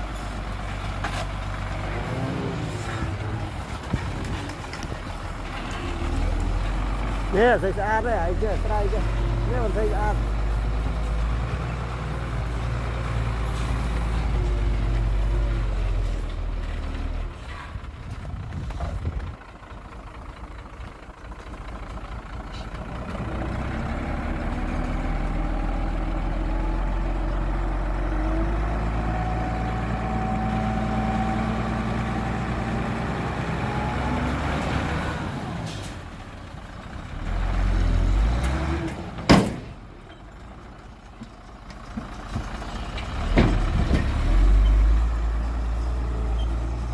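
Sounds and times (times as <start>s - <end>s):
heavy diesel engines rumbling: 0.0s - 46.9s.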